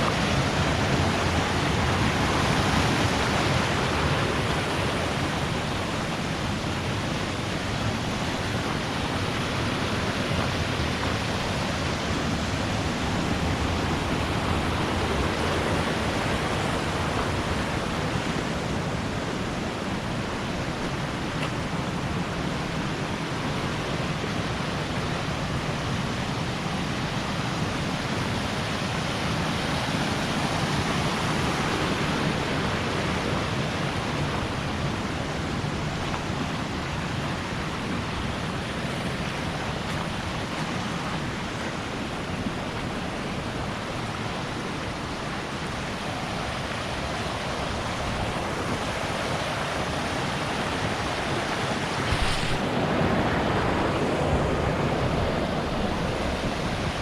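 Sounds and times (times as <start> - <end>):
waterfall rushing: 0.0 - 57.0
wind noise on microphone: 0.0 - 57.0.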